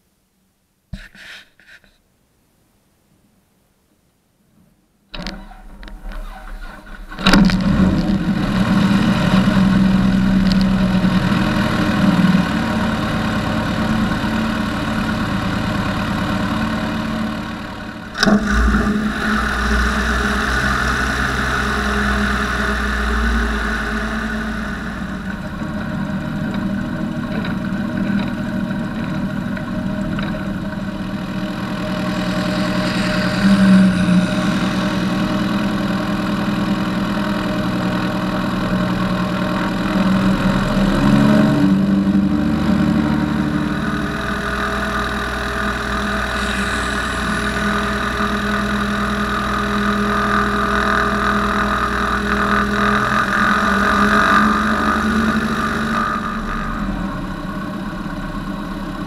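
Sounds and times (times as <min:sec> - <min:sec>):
aircraft piston engine and propeller: 0:05.2 - 0:59.0.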